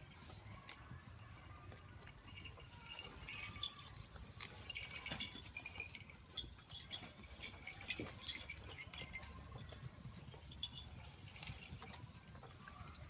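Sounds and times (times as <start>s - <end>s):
goats chewing grass: 0.0s - 13.0s.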